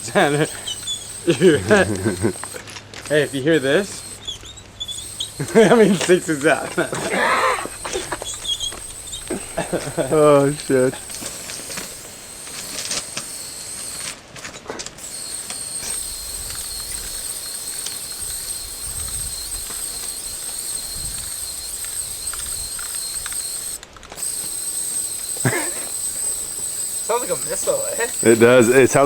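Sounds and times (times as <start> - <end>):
spray paint can hissing: 0.0 - 29.0.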